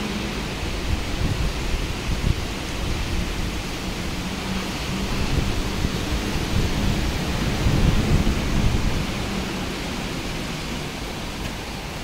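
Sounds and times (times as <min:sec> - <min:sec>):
gusting wind: 0:00.0 - 0:12.0
heavy rain: 0:00.0 - 0:12.0.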